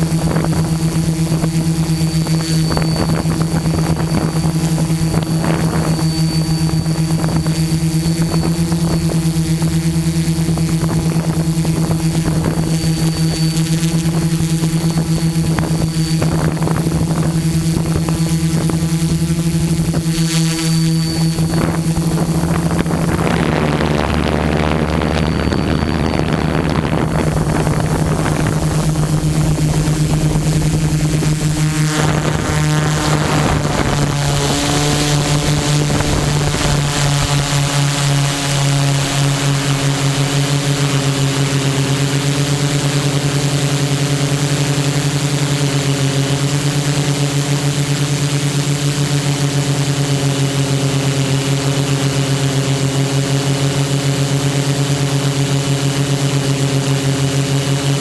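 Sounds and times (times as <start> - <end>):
quadcopter propellers buzzing: 0.0 - 58.0.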